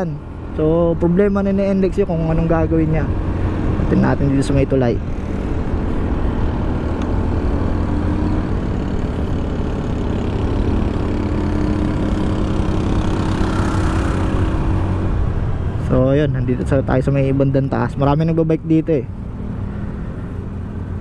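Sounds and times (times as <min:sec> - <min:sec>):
motorcycle engine running: 0:00.0 - 0:18.2
wind and road noise: 0:00.0 - 0:21.0.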